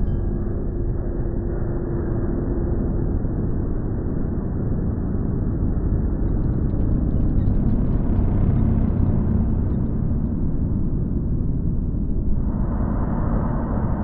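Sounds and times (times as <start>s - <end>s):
low rumbling ambient drone: 0.0s - 14.0s.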